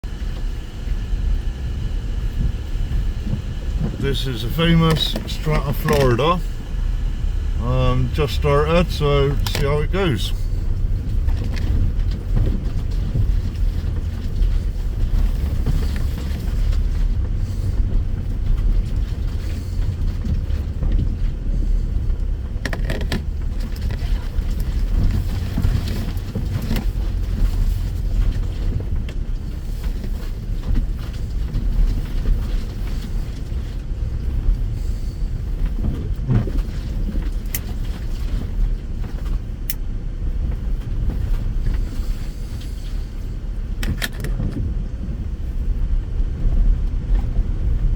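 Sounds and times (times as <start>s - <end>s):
vehicle engine rumble: 0.0s - 47.9s.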